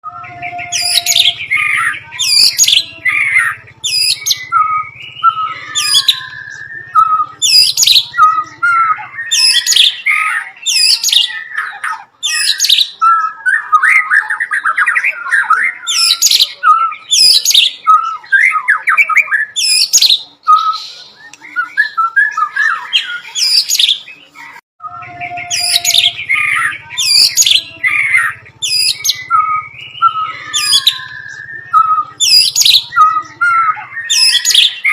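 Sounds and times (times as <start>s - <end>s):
songbird whistling and chattering: 0.0s - 34.9s.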